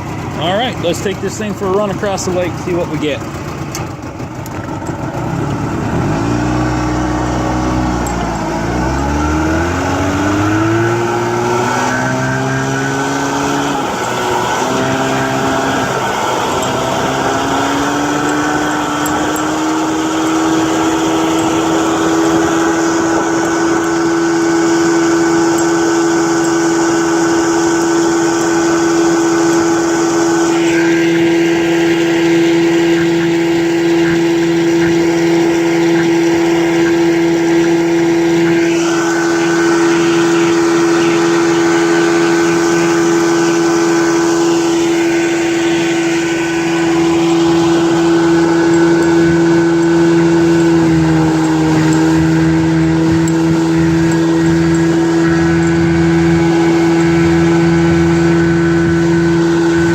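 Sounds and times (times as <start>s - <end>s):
outboard motor revving up: 0.0s - 59.9s.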